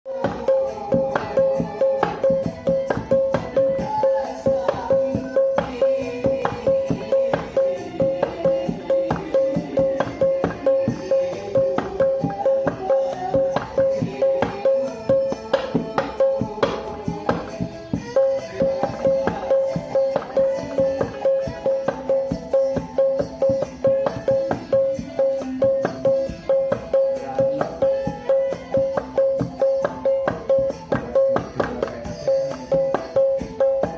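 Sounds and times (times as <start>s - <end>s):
melodic dangdut music: 0.1s - 33.9s
hand drumming on paint cans: 0.2s - 33.9s.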